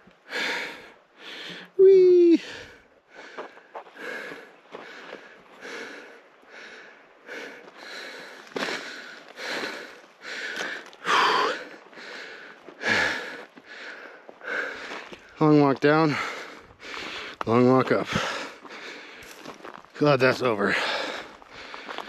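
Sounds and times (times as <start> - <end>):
man panting: 0.2 - 19.5, 20.6 - 22.0.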